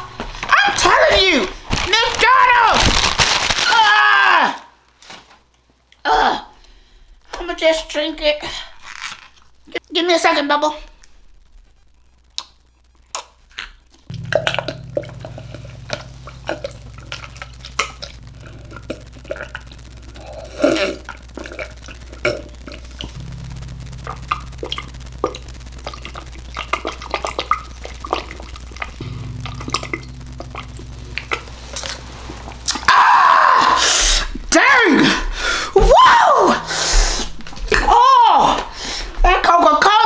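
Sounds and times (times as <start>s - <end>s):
low steady hum: 6.6s - 40.0s.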